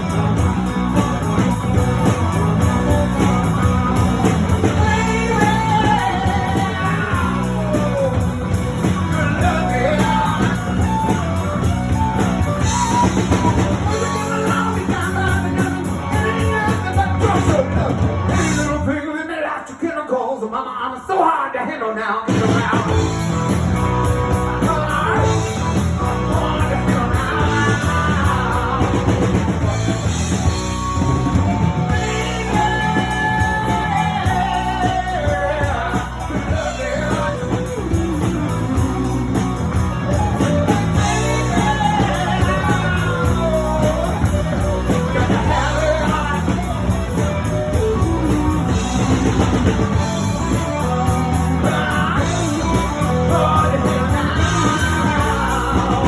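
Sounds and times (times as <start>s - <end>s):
drum kit: 0.0s - 19.0s, 22.3s - 56.0s
electric guitar: 0.0s - 19.0s, 22.3s - 56.0s
bass line: 0.0s - 19.1s, 22.3s - 56.0s
live rock band playing: 0.0s - 19.2s, 22.3s - 56.0s
person singing: 2.0s - 19.6s, 21.4s - 56.0s.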